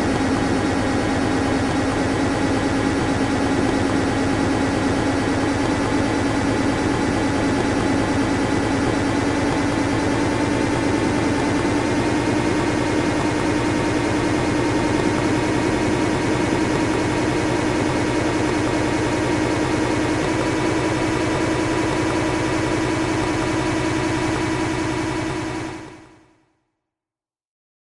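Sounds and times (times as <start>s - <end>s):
aircraft engine hum: 0.0s - 26.1s
engine whine: 0.0s - 26.2s.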